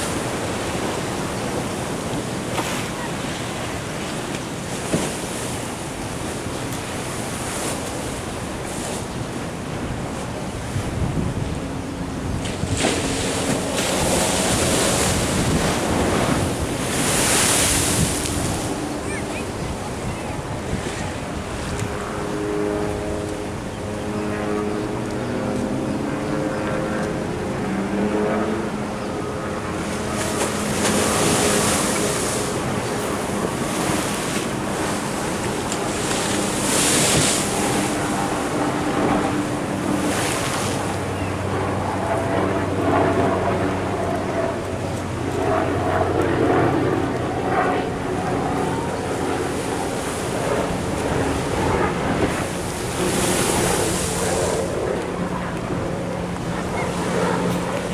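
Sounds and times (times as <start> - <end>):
waves washing against a sea wall: 0.0 - 57.9
wind on microphone: 0.0 - 57.9.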